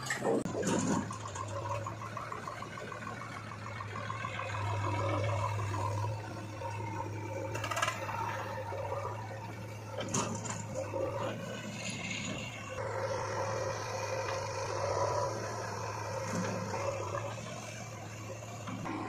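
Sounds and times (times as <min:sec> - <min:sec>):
diesel engines droning: 0:00.0 - 0:19.0.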